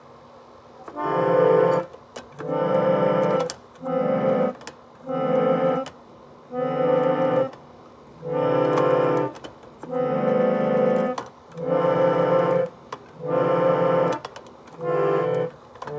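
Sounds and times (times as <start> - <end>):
keyboard chords: 0.9 - 15.9.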